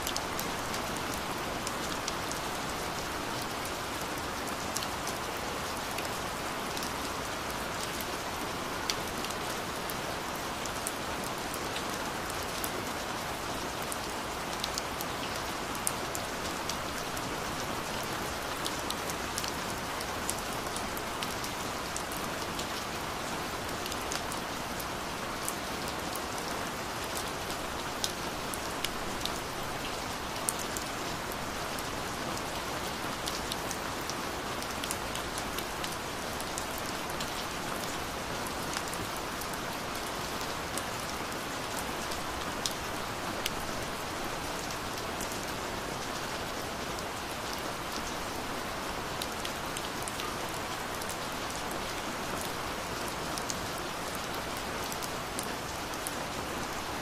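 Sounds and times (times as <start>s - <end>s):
raindrops ticking on a surface: 0.0s - 56.8s.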